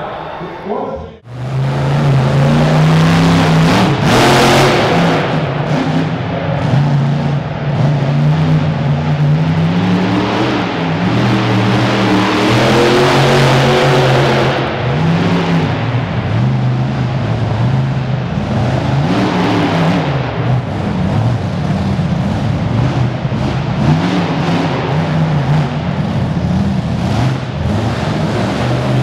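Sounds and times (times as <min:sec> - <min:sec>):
truck engine revving: 0:01.2 - 0:29.0.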